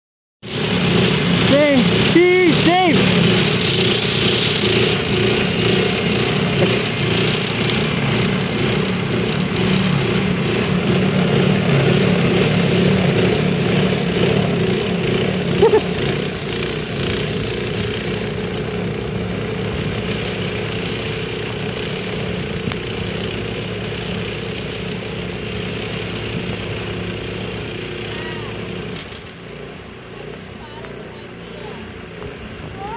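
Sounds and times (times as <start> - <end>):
snowthrower engine running: 0.4 - 32.9.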